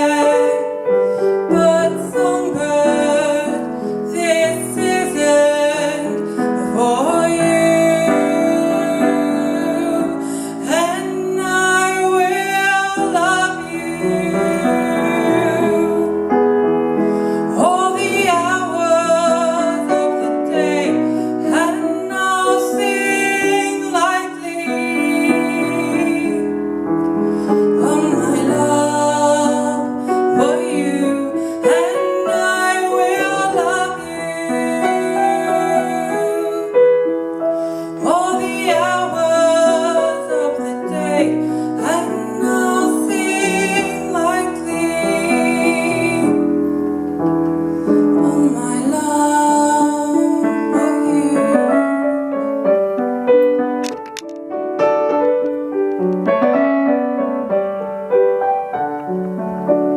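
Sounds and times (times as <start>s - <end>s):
woman singing: 0.0s - 47.1s, 47.8s - 52.5s
keyboard chords: 0.0s - 59.9s.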